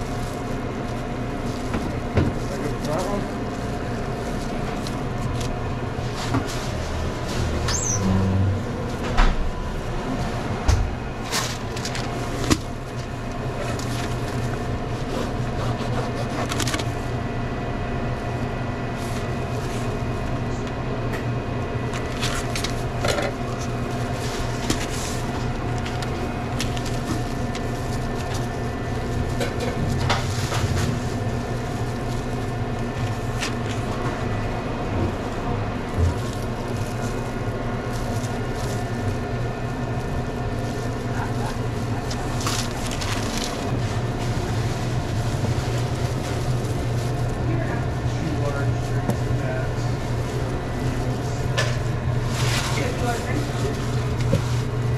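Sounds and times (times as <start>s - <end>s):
equipment humming: 0.0s - 54.9s.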